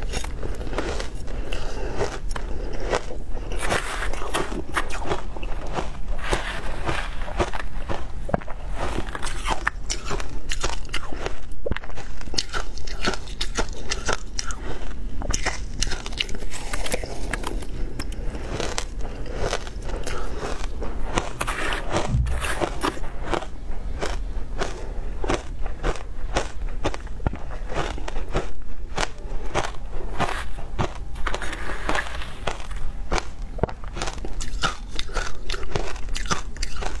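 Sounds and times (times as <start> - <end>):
ice crunching between teeth: 0.0 - 37.0.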